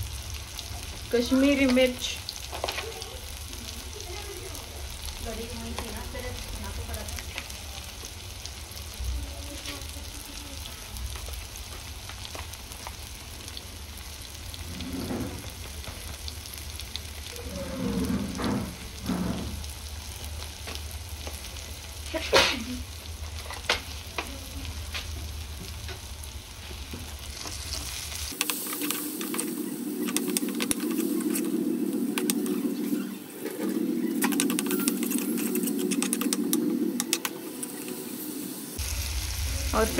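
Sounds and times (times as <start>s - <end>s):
masala sizzling in a pan: 0.0s - 39.9s.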